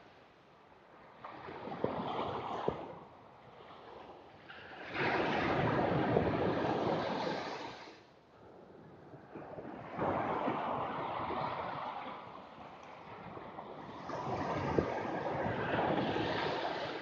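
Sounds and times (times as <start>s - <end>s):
surf washing up sandy beach: 1.2s - 8.1s, 9.1s - 17.0s.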